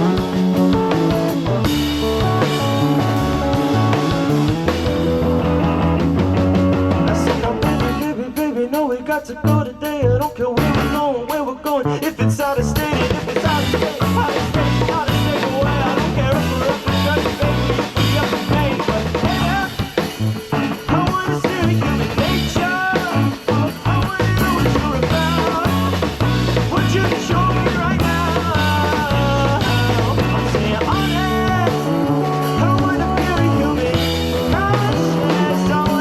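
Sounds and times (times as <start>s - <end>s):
bending lead melody: 0.0s - 8.3s, 11.9s - 36.0s
drum kit with rimshots: 0.0s - 36.0s
rock band playing live: 0.0s - 36.0s.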